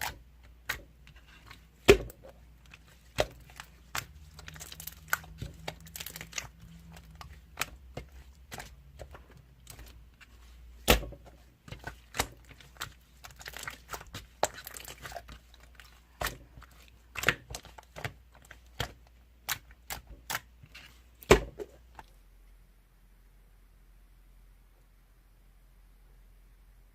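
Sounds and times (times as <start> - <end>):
slime crackling: 0.0 - 22.1.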